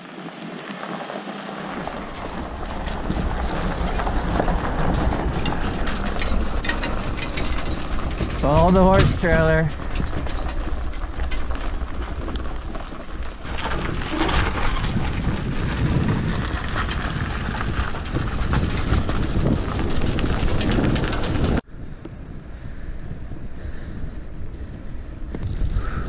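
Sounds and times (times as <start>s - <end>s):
bike tyres rumbling on road: 0.0s - 26.0s
wind buffeting microphone: 1.7s - 26.0s.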